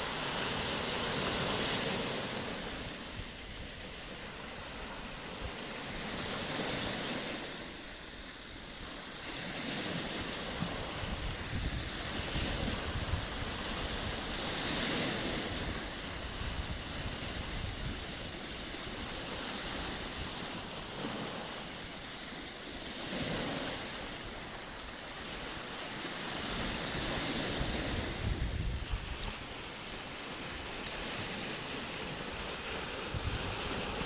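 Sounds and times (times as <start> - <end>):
surf washing over pebble beach: 0.0 - 34.0
wind rumble on microphone: 0.0 - 34.0.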